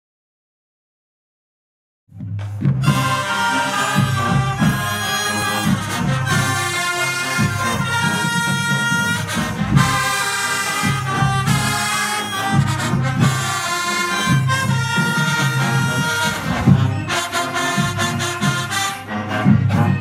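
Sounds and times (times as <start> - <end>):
trumpets and horns playing chords: 2.4 - 20.0
low sousaphone line: 2.8 - 20.0.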